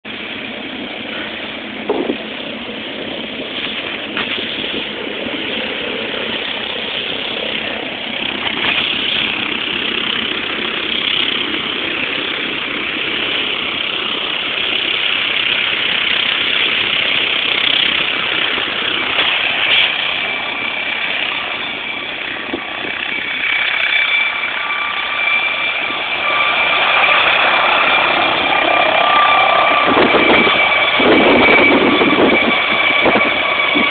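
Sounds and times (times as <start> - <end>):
helicopter turbine and rotor: 0.0 - 33.9
high steady whine: 0.1 - 33.9.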